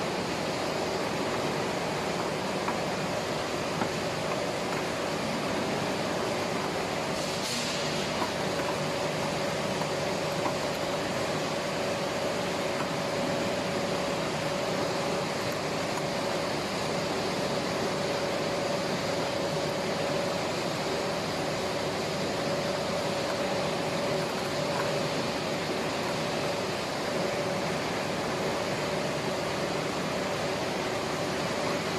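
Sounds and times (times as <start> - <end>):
machine hum and hiss: 0.0 - 31.9
mid-pitched whine: 0.0 - 31.9.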